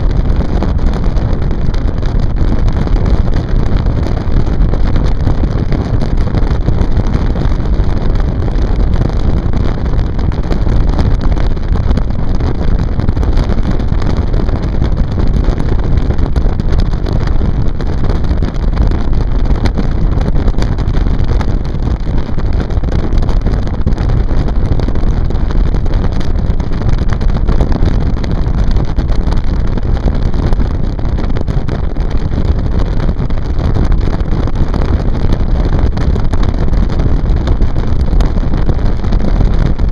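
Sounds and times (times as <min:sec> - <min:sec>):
motorboat engine: 0:00.0 - 0:39.9
wind buffeting microphone: 0:00.0 - 0:39.9.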